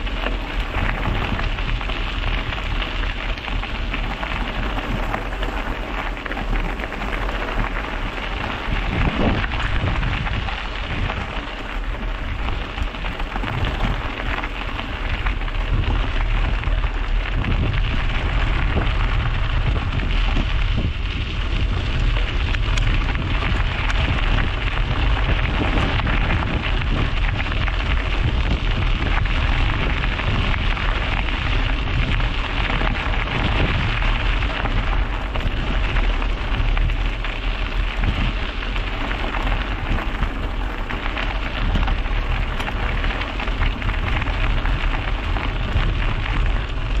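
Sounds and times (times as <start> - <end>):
bicycle tyres rolling on road: 0.0 - 47.0
wind buffeting microphone: 0.0 - 47.0.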